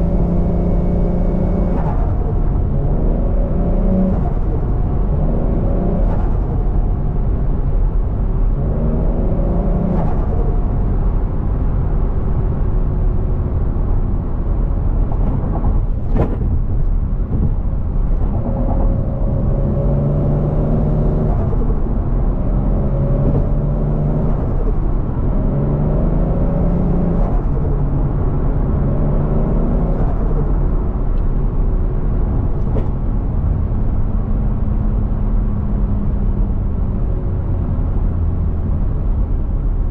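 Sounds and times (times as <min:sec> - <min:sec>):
car engine accelerating: 0:00.0 - 0:12.5, 0:14.8 - 0:39.9.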